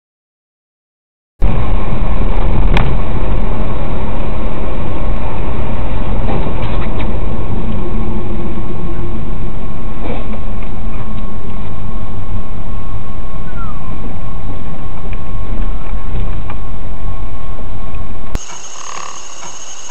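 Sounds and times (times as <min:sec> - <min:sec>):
vehicle engine and road noise: 0:01.4 - 0:19.9.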